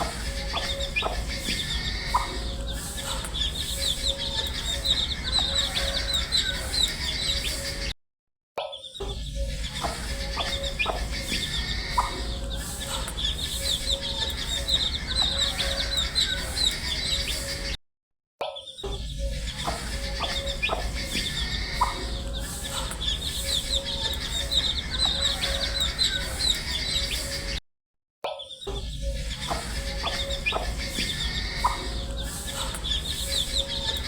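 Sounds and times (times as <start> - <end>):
baby chicks peeping: 0.0 - 7.9, 9.4 - 17.7, 19.2 - 27.6, 28.6 - 34.0.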